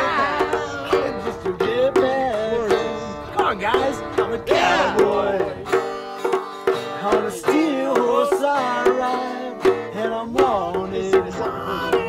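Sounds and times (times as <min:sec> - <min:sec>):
light percussion: 0:00.0 - 0:12.0
plucked strings with sliding notes: 0:00.0 - 0:12.0.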